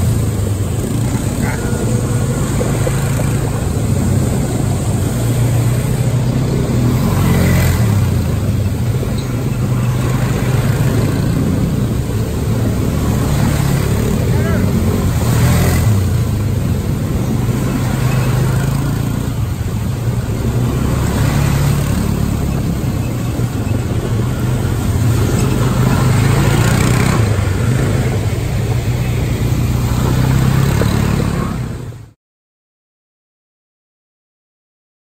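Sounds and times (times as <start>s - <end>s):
quad bike engines running: 0.0s - 32.2s.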